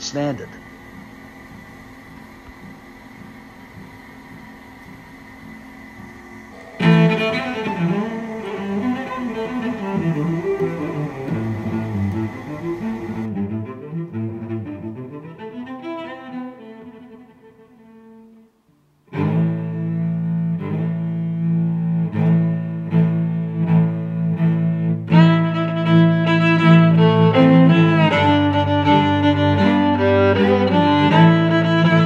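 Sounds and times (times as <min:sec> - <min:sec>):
instrumental music: 0:00.6 - 0:32.0.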